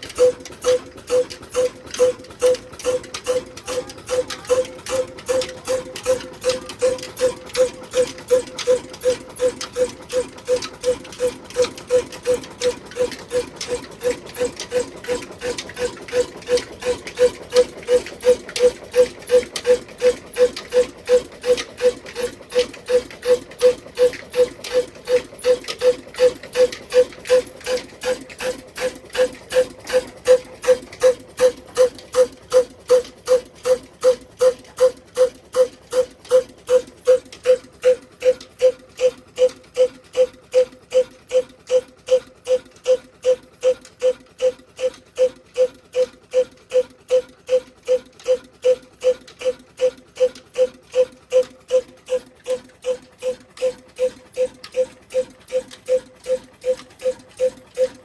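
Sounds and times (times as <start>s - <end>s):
diesel engine running slowly: 0.0s - 58.0s.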